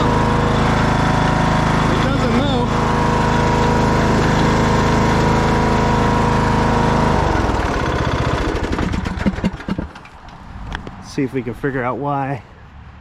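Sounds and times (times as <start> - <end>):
lawn tractor engine: 0.0 - 10.9.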